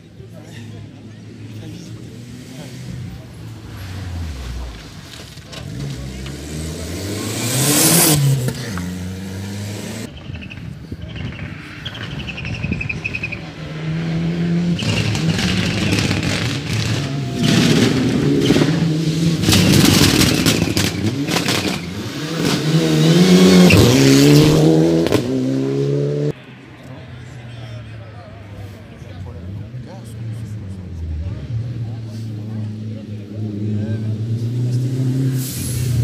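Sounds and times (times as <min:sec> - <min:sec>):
car engine revving and braking: 0:00.3 - 0:36.0
rally car passing loudly: 0:00.9 - 0:10.1, 0:11.2 - 0:36.0.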